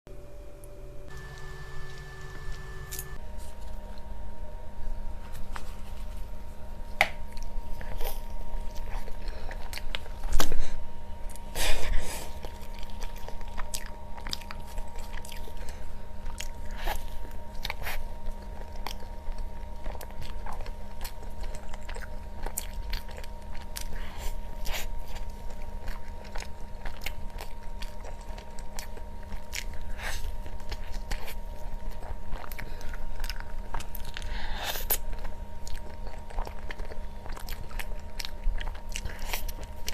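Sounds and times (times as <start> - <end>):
faint steady hum: 0.1 - 39.9
person chewing crunchy food: 5.0 - 39.9.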